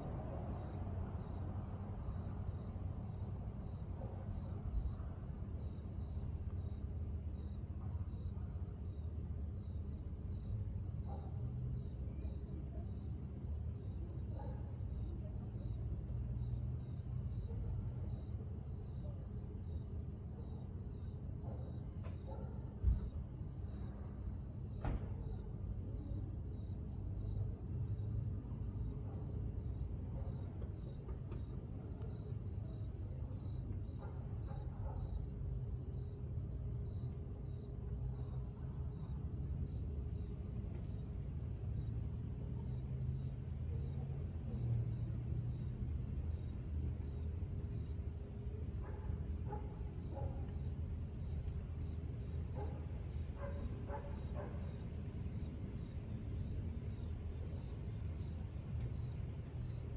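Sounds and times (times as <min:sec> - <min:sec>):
continuous low rumble: 0:00.0 - 0:59.9
crickets chirping: 0:00.0 - 0:59.9.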